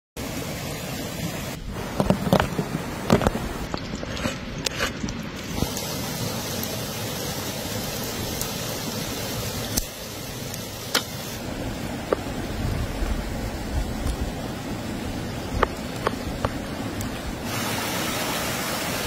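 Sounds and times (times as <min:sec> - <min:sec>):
small stream rushing: 0:00.2 - 0:19.0.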